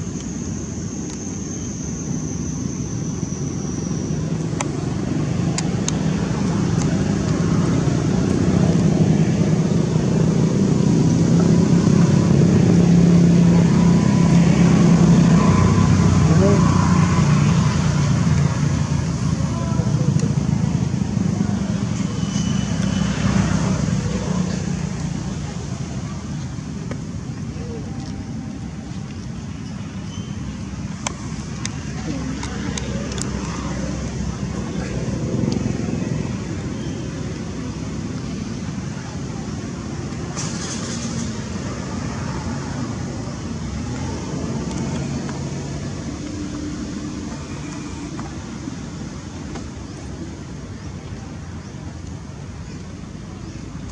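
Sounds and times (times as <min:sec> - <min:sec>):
low mechanical drone: 0:00.0 - 0:53.9
low outdoor rumble: 0:00.0 - 0:53.9.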